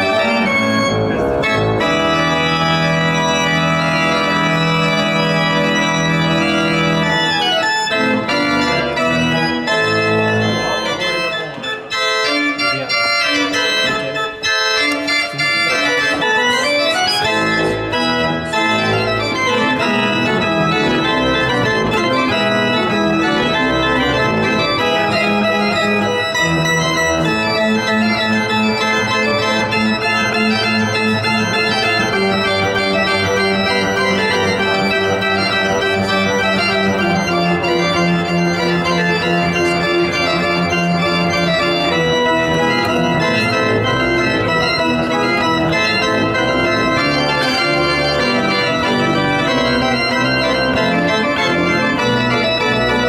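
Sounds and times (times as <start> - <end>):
pipe organ playing: 0.0 - 53.0.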